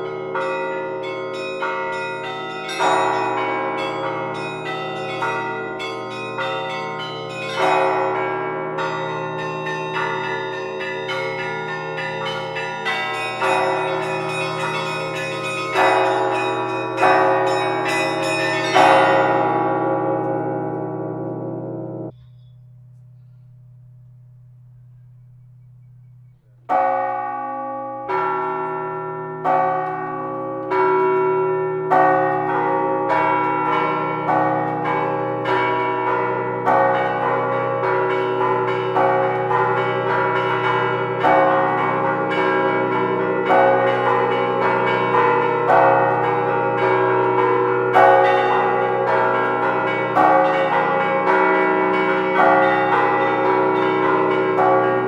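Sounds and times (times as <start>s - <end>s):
church bells ringing: 0.0s - 22.2s, 24.0s - 55.0s.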